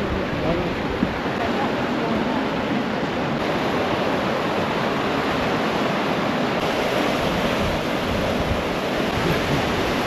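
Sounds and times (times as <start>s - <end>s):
hot water rushing from geyser: 0.0s - 10.0s.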